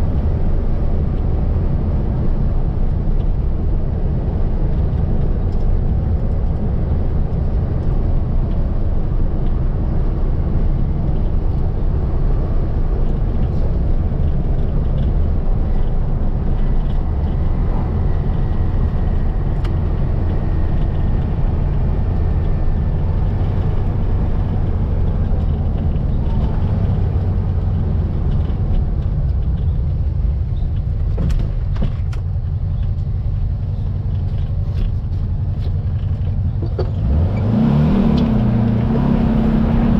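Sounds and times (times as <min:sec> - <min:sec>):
car engine droning while driving: 0:00.0 - 0:39.9.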